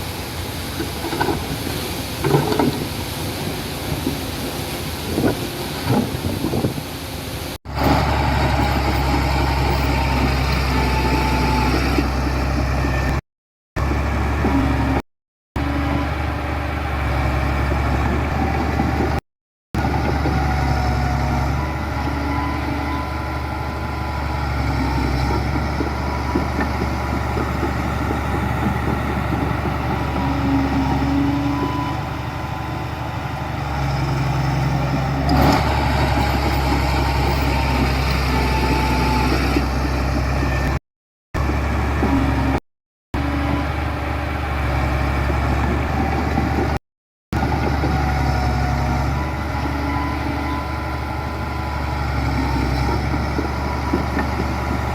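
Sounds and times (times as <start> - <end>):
heavy diesel engines running: 0.0 - 13.2, 19.8 - 40.8, 41.4 - 42.6, 43.2 - 46.8, 47.4 - 54.9.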